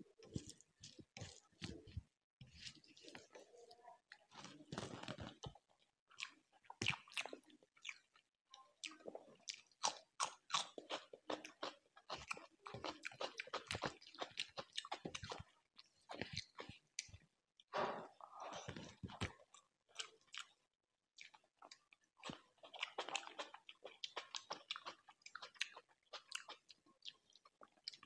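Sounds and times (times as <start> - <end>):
chewing with crunches and smacks: 0.0 - 28.0.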